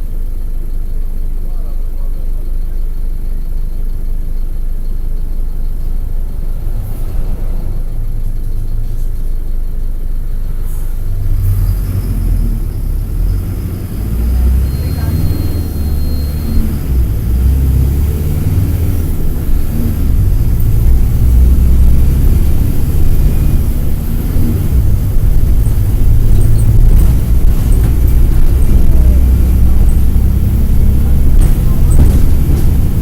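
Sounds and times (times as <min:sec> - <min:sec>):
bus diesel engine droning: 0:00.0 - 0:33.0.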